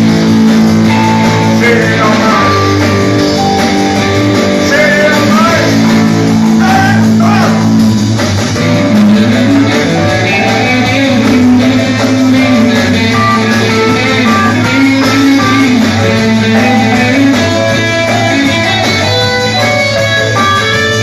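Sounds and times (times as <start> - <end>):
bass guitar: 0.0 - 21.0
electric guitar melody: 0.0 - 21.0.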